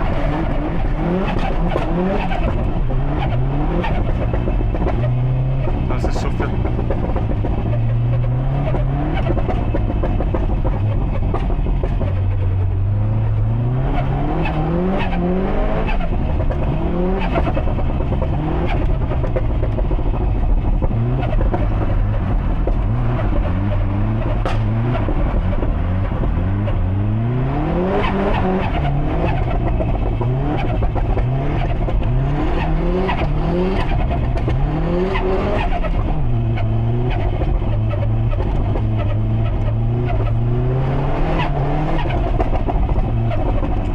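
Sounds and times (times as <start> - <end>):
car engine driven hard: 0.0 - 43.9.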